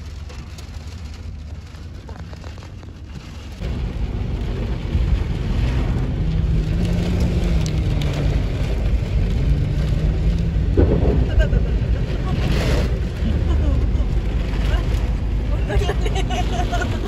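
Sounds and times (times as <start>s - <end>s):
deep low thunder rumble: 0.0s - 17.0s
rain: 0.0s - 17.0s
wind: 0.0s - 17.0s.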